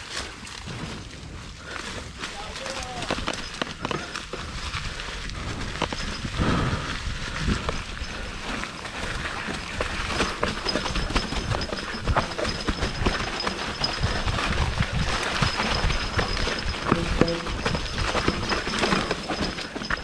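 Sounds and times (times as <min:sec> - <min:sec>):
bike rattling over bumps: 0:00.0 - 0:20.0
tyres crunching on dirt and leaves: 0:00.0 - 0:20.0.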